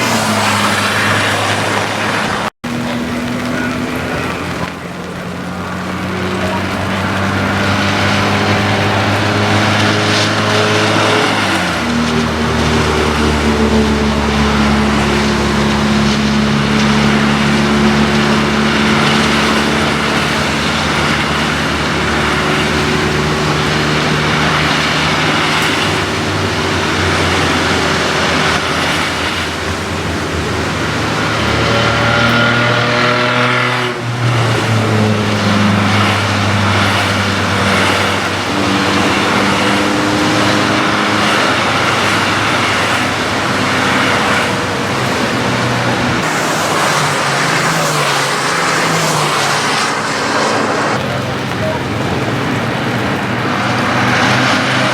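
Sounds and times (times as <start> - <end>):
race car engine under load: 0.0 - 54.9.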